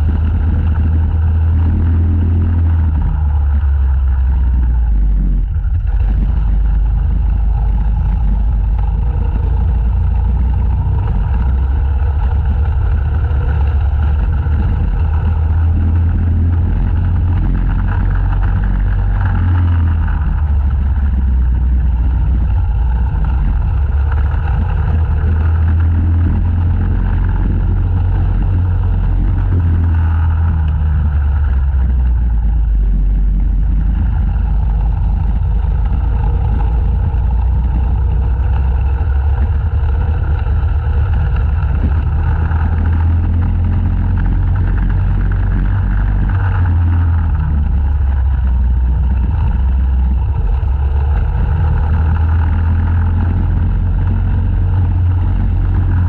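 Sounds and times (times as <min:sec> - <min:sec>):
go-kart engine running hard: 0:00.0 - 0:56.0
wind rumble on microphone: 0:00.0 - 0:56.0.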